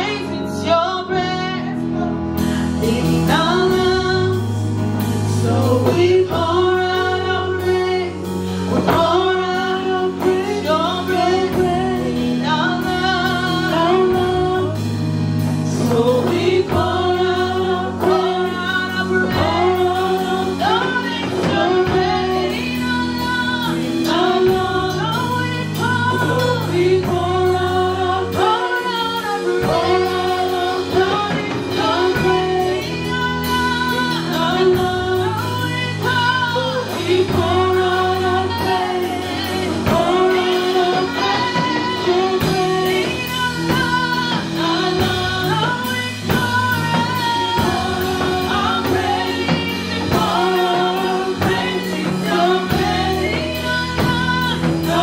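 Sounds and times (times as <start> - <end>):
instrumental accompaniment with beat: 0.0 - 55.0
worship team singing: 0.0 - 55.0.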